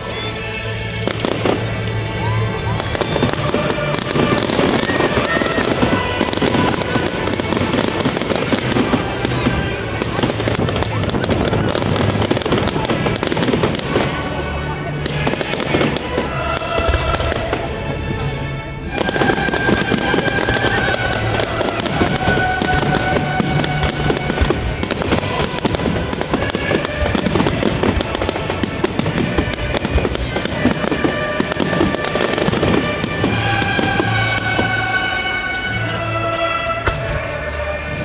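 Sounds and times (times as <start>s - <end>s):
fireworks bangs and crackling: 0.0s - 38.0s
music holding long notes: 0.0s - 38.0s.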